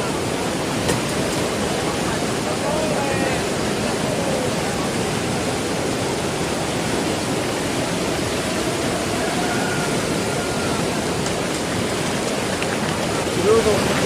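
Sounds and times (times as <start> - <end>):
water rushing through dam: 0.0 - 14.0.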